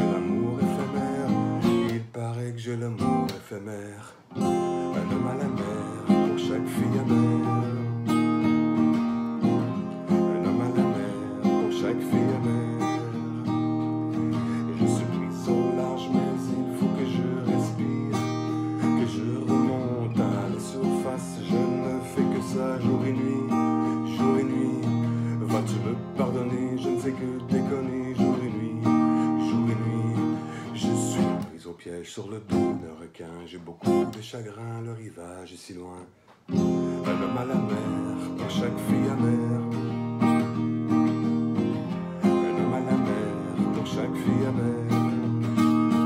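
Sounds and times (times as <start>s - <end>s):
acoustic guitar strumming chords: 0.0s - 31.6s, 32.3s - 33.1s, 33.8s - 34.4s, 36.4s - 46.0s.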